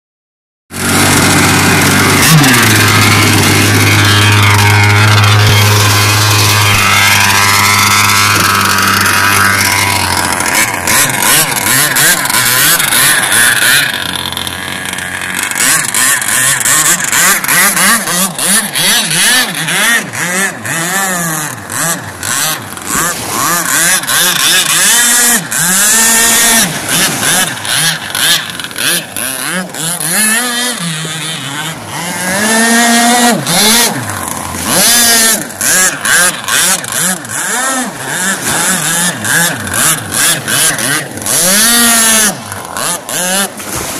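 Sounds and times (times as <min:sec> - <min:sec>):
engine crackles: 0:00.7 - 0:43.9
two-stroke engine revving: 0:00.7 - 0:43.9.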